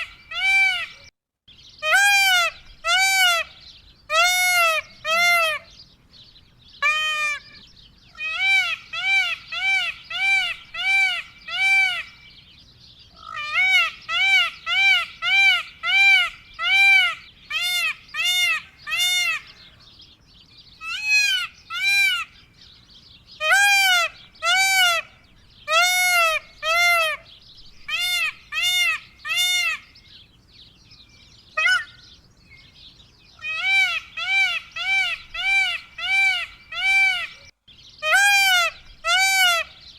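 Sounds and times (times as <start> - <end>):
peacock calling: 0.0 - 39.9.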